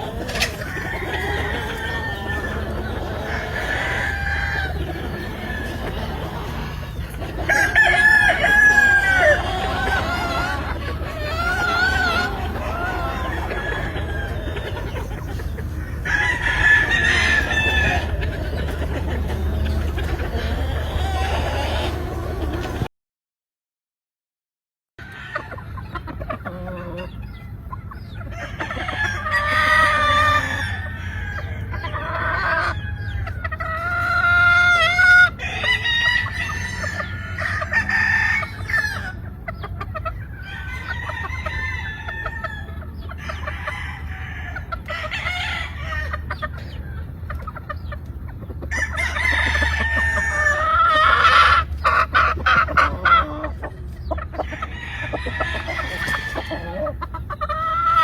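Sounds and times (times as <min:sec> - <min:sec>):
hens clucking: 0:00.0 - 0:22.9, 0:25.0 - 0:58.0
roosters crowing: 0:00.0 - 0:22.9, 0:25.0 - 0:27.4, 0:28.0 - 0:58.0.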